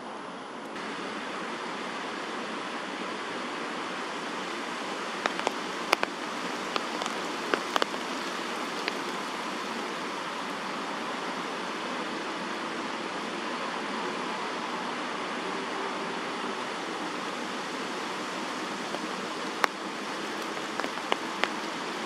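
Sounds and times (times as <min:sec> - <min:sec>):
rain on tree canopy: 0:00.0 - 0:22.0.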